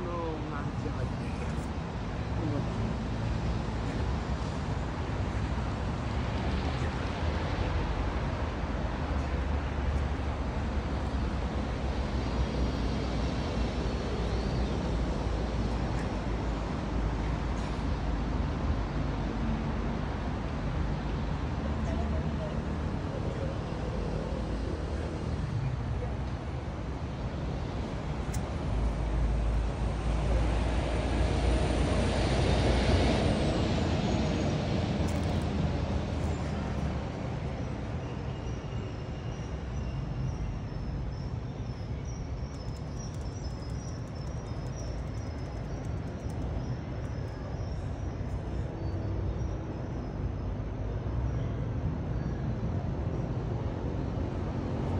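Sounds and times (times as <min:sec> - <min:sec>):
outdoor background rumble: 0:00.0 - 0:54.9.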